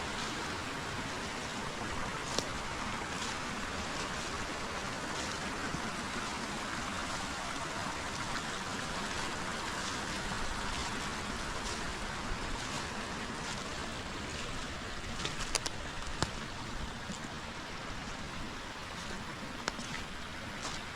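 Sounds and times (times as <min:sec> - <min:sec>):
river water flowing: 0:00.0 - 0:20.9.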